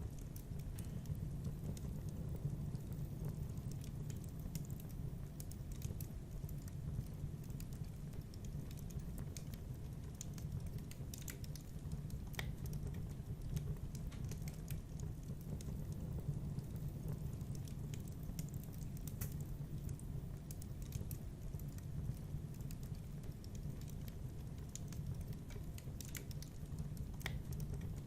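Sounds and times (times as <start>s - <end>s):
low steady rumble: 0.0s - 28.0s
wood fire crackling: 0.0s - 28.0s.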